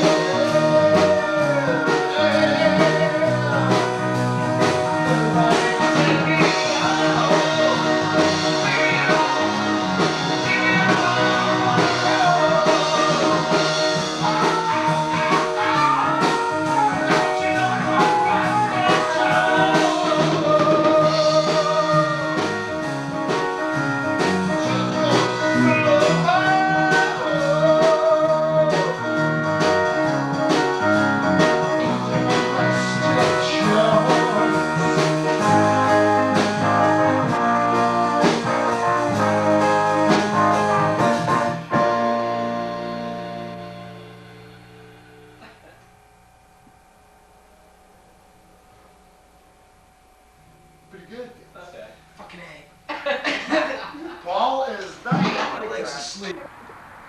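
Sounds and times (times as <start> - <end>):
blues-rock song: 0.0 - 45.9.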